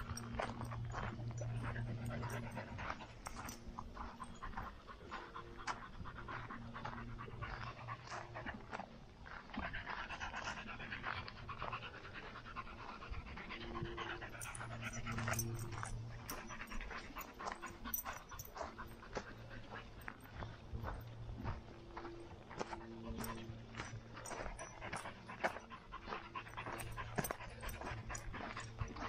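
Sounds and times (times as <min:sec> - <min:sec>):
dog panting rapidly: 0:00.0 - 0:29.0
low steady hum: 0:00.0 - 0:29.0.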